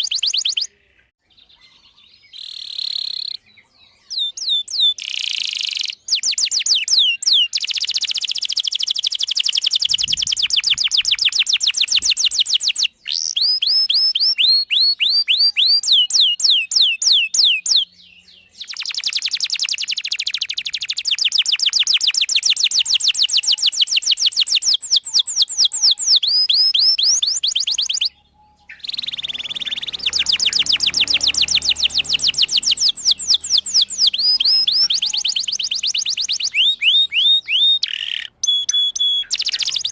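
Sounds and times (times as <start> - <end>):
canary singing rapid trills: 0.0 - 0.7, 1.4 - 39.9.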